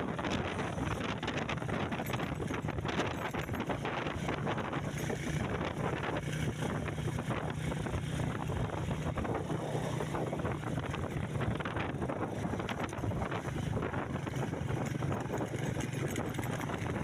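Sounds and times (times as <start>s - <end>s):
vehicle engine humming: 0.0s - 17.0s
wind buffeting microphone: 0.0s - 17.0s
rattling: 0.3s - 9.6s, 10.4s - 17.0s.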